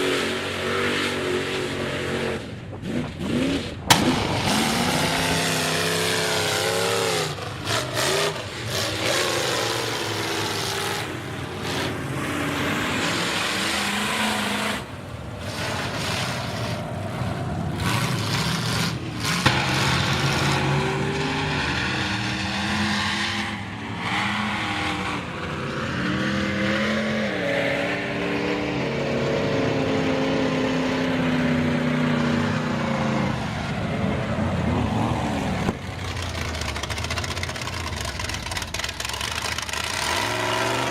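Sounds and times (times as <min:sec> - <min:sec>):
truck engine revving hard: 0:00.0 - 0:40.9.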